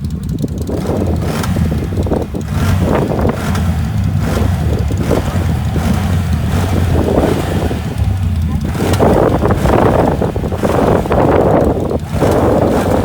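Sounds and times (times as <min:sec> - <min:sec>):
atv engine running: 0:00.0 - 0:13.0
wind buffeting microphone: 0:00.0 - 0:13.0.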